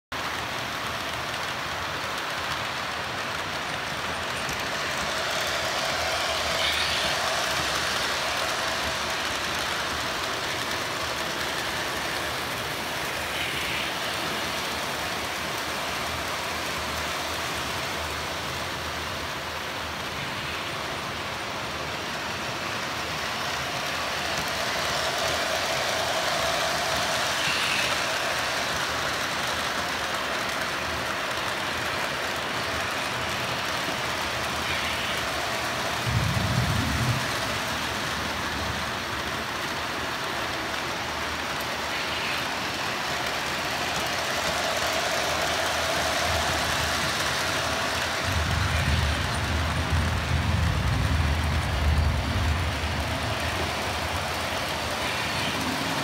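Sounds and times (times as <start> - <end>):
model trains rumbling on track: 0.1 - 56.0.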